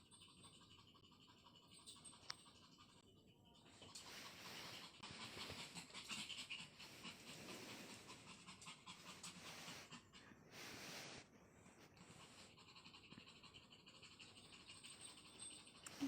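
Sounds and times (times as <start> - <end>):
small dog panting: 0.0 - 16.0.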